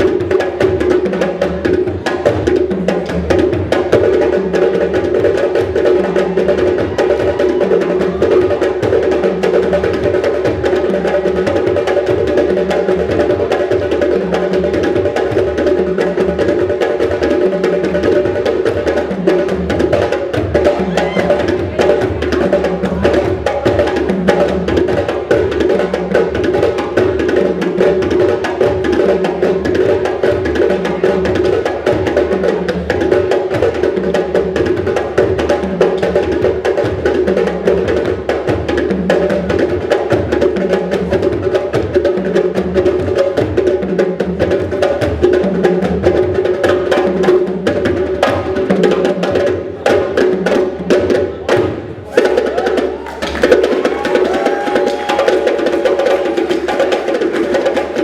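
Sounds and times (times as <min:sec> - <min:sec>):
music with dense percussive beat: 0:00.0 - 0:58.0.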